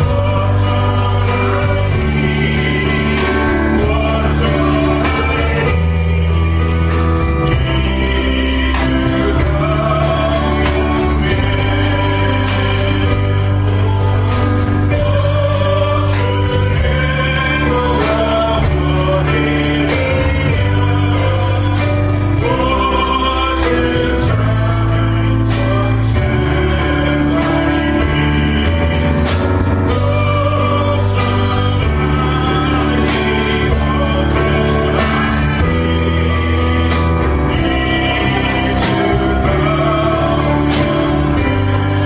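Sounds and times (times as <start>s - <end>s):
group singing over a band: 0.0s - 42.0s.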